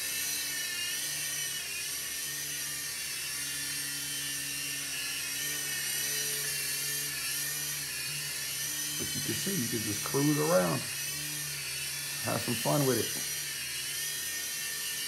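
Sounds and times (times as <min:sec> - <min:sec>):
rc helicopter whine: 0:00.0 - 0:15.0.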